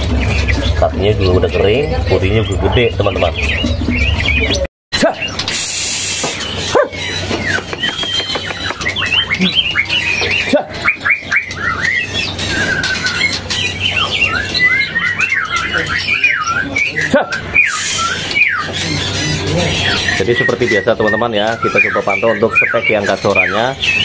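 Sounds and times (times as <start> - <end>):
bird trill: 0.0 - 24.0
songbirds chirping: 0.0 - 24.0.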